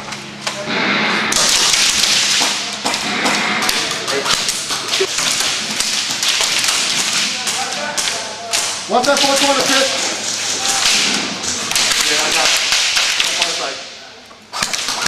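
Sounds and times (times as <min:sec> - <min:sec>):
airsoft rifles firing: 0:00.7 - 0:13.8, 0:14.5 - 0:15.0
pellets striking plywood walls: 0:01.3 - 0:13.6.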